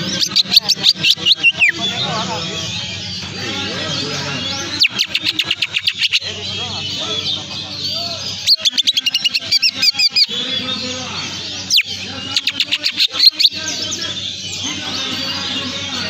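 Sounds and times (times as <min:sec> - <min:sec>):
songbird chirping and whistling: 0:00.0 - 0:16.0.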